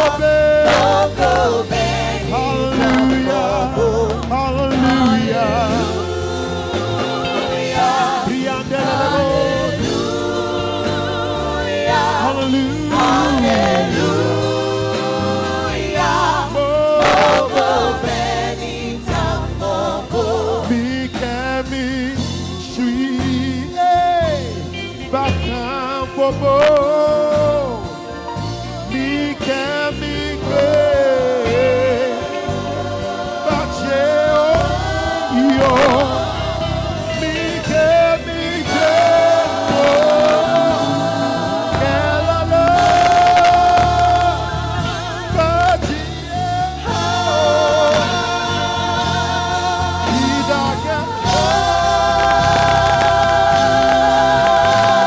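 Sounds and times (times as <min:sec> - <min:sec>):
band playing: 0:00.0 - 0:55.0
man singing gospel: 0:00.0 - 0:55.0.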